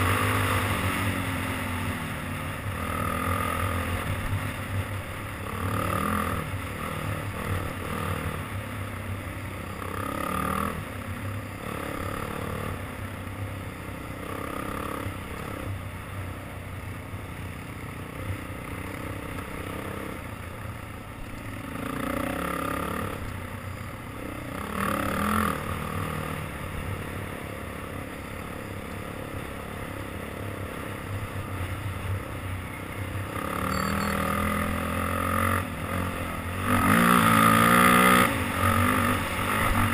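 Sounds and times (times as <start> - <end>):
atv engine revving under load: 0.0 - 8.8, 9.6 - 13.0, 13.9 - 15.8, 17.8 - 20.4, 21.3 - 23.4, 24.1 - 31.4, 33.2 - 39.9.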